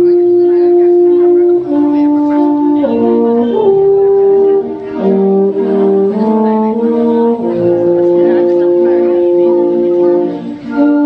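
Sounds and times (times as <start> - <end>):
concert band playing chords: 0.0 - 11.0.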